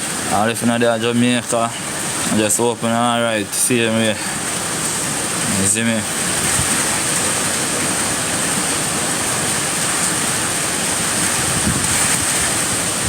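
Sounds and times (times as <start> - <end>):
hurricane wind and rain: 0.0 - 13.0.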